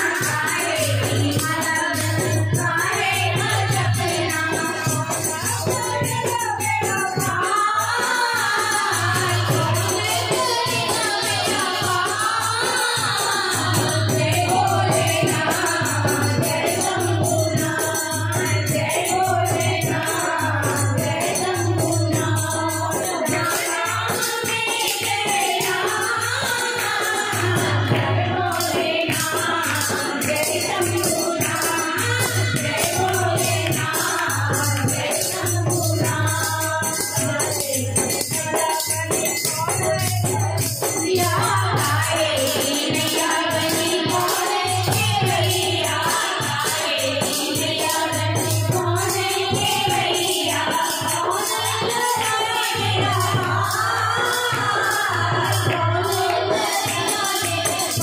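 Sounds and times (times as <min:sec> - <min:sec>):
hand percussion beat: 0:00.0 - 0:58.0
women singing devotional song: 0:00.0 - 0:58.0.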